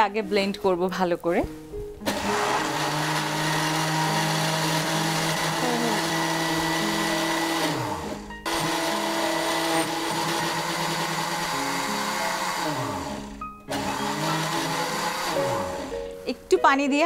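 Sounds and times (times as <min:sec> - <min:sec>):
electric blender running: 0:02.0 - 0:16.0.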